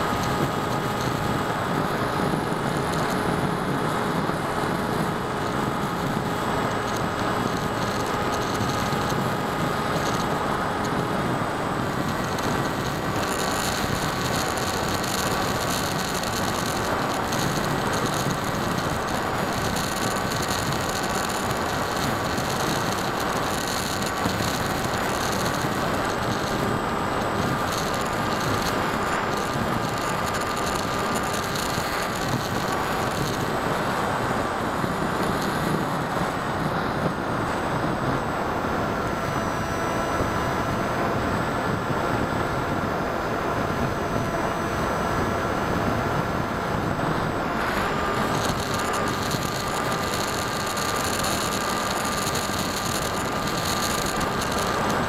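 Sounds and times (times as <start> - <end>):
rc plane motor buzzing: 0.0 - 55.0.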